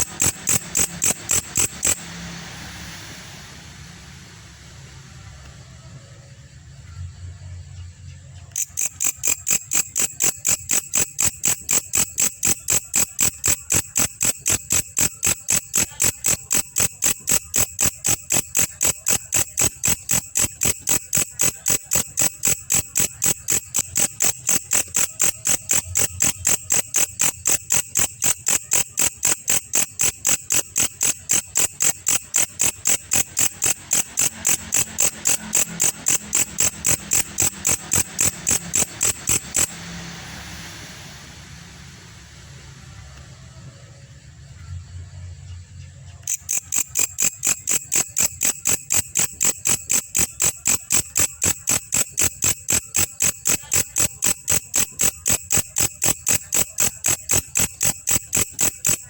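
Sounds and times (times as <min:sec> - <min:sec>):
grasshopper chirping: 0:00.0 - 0:05.4, 0:08.5 - 0:43.6, 0:46.1 - 0:59.0.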